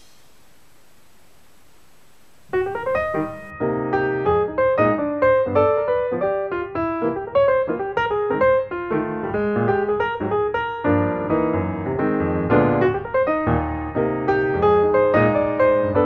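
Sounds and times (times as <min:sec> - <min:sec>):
piano music: 0:02.5 - 0:16.0.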